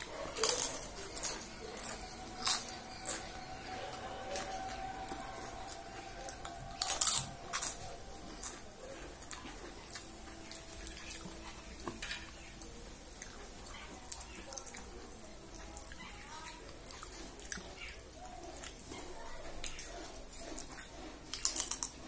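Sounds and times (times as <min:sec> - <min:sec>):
fingers mixing food on a steel plate: 0:00.0 - 0:22.0
wet chewing: 0:00.0 - 0:22.0.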